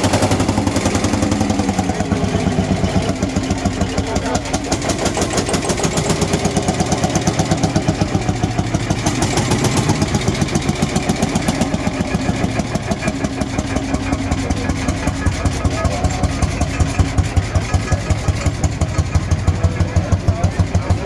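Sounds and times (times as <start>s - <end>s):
tractor engine pulsing: 0.0s - 21.0s.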